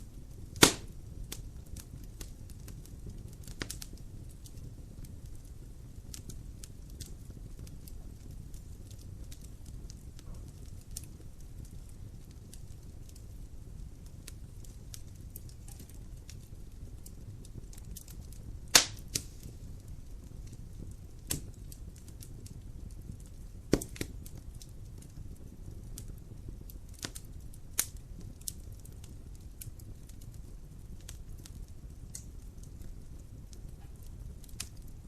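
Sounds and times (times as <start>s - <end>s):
fire popping and snapping: 0.0s - 35.0s
low rumble of flames: 0.0s - 35.0s.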